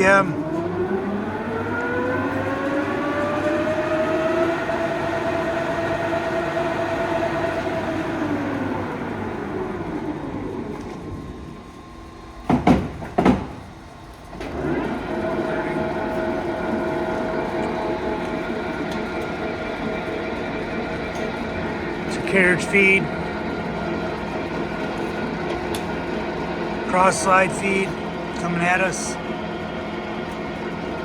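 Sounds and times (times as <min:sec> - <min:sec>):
lathe gearing whining: 0:00.0 - 0:12.4, 0:13.6 - 0:31.0.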